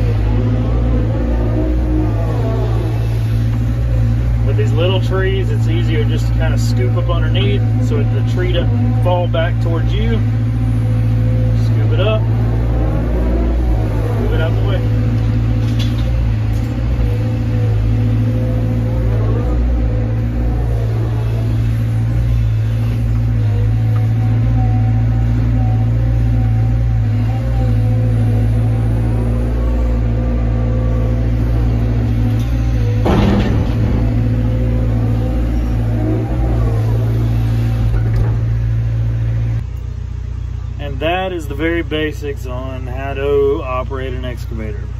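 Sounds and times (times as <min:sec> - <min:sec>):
excavator diesel engine running: 0:00.0 - 0:44.9
hydraulic whine: 0:00.0 - 0:44.9.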